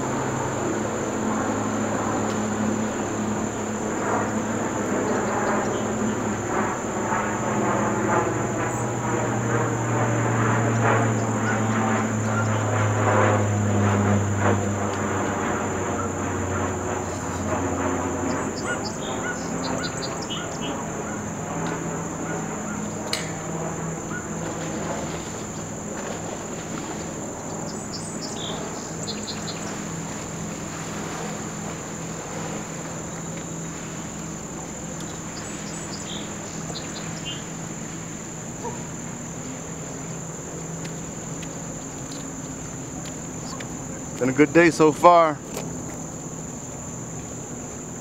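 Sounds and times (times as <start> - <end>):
high-pitched insect chorus: 0.0 - 48.0
low steady hum: 0.0 - 48.0.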